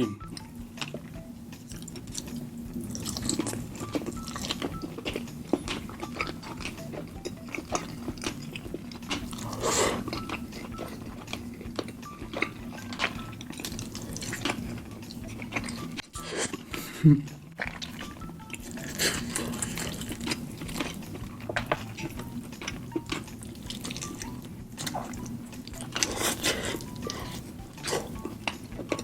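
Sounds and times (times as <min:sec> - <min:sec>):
chewing chicken: 0:00.0 - 0:29.0.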